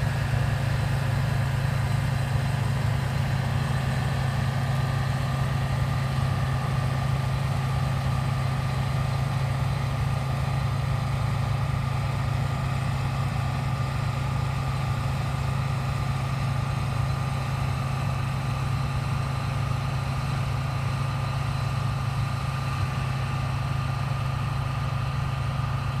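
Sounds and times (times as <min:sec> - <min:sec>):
harvester engine hum: 0:00.0 - 0:26.0.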